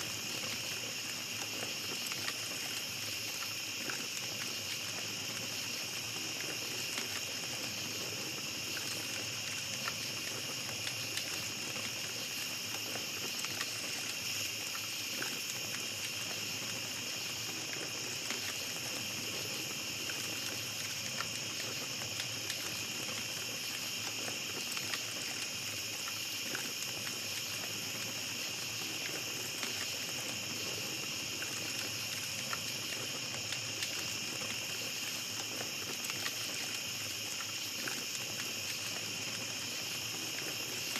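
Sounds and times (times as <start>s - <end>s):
campfire crackling: 0.0s - 40.9s
night forest background: 0.0s - 40.9s.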